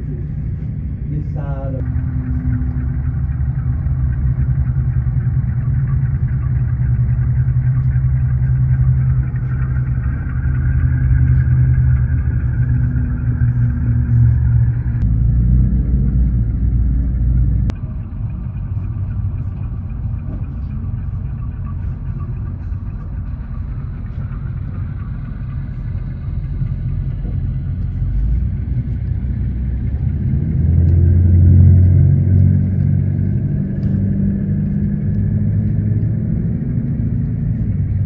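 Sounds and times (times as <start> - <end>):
diesel engine rumble: 0.0 - 38.0.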